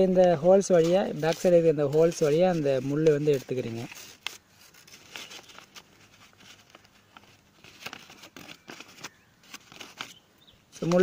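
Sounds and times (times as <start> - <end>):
paper rustling and crinkling: 0.0 - 10.2, 10.8 - 11.0.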